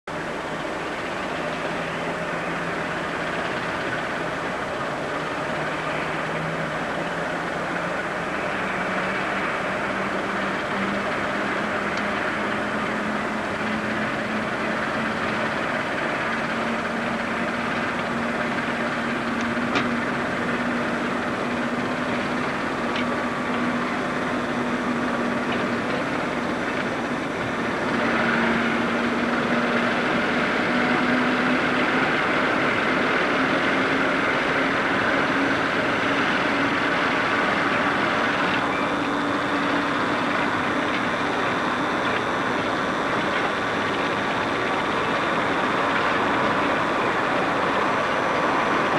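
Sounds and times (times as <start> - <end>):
diesel locomotive engines droning: 0.0 - 48.9.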